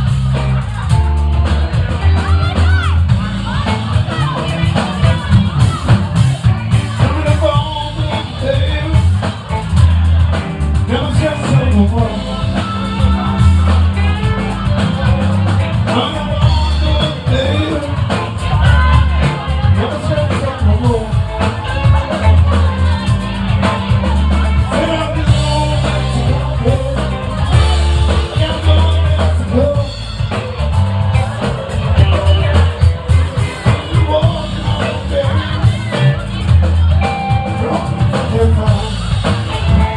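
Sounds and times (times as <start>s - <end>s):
live rock band playing: 0.0s - 39.9s
person singing: 0.1s - 39.9s.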